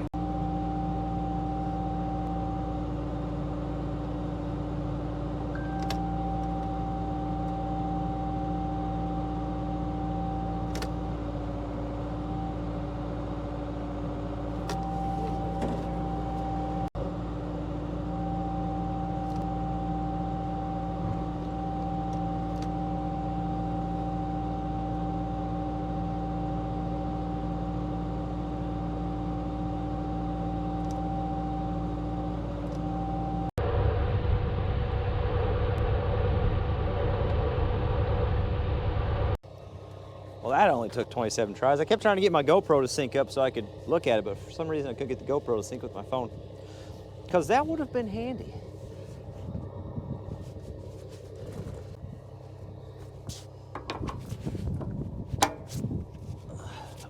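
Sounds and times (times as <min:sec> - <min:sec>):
excavator diesel engine running: 0:00.0 - 0:57.0
hydraulic pump whine: 0:00.0 - 0:57.0.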